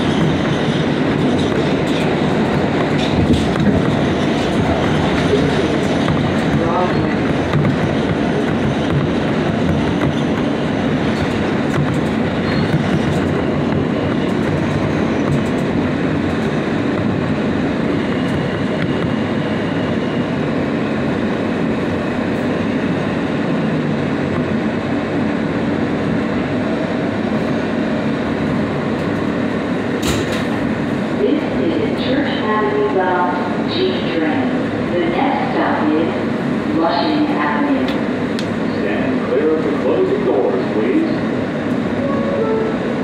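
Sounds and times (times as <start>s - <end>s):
subway train rumbling on track: 0.0s - 43.0s.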